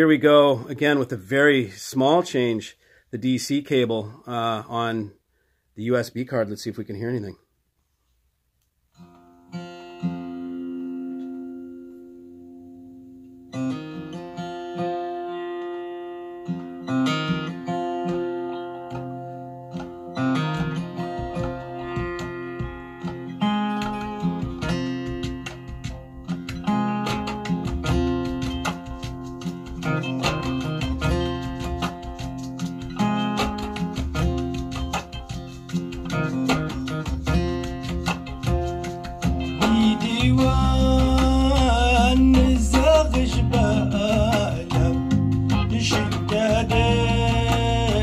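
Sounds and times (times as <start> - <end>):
guitar piece over speakers: 8.8 - 48.0.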